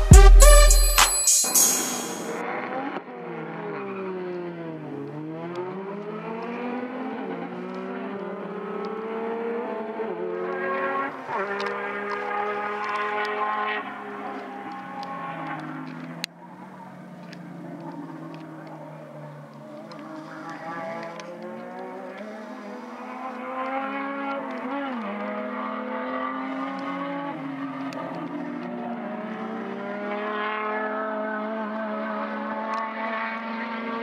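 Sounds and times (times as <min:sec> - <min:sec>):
racing car engines at full throttle: 0:02.4 - 0:34.0.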